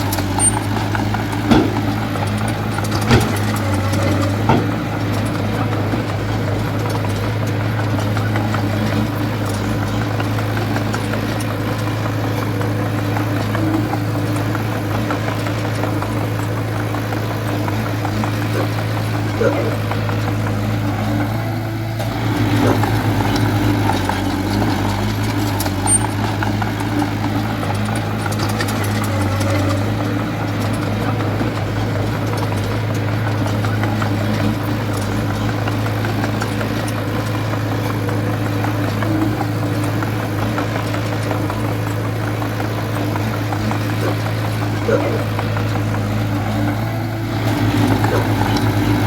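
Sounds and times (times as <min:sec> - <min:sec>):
heavy machinery diesel engine: 0:00.0 - 0:49.0.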